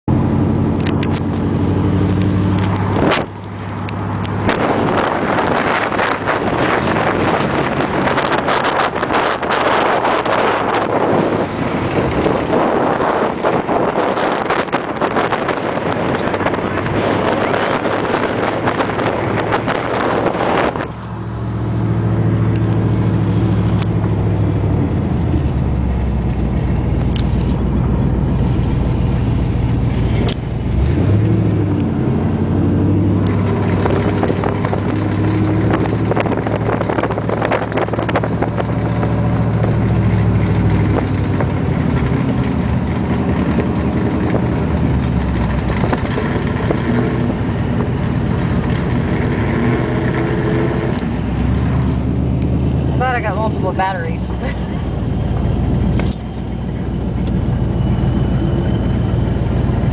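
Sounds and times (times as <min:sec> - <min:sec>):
car engine droning: 0:00.1 - 0:59.9
wind rushing over microphone: 0:00.1 - 0:59.9.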